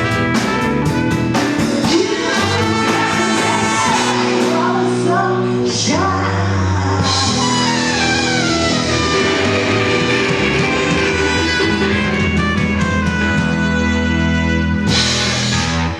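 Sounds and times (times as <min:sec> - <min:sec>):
electric guitar: 0:00.0 - 0:15.9
live rock band playing: 0:00.0 - 0:15.9.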